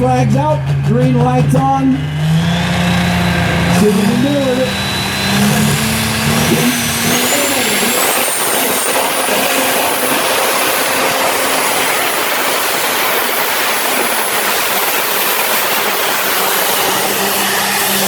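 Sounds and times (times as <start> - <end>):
high whine: 0.0 - 18.0
tractor engine roaring: 0.0 - 18.0.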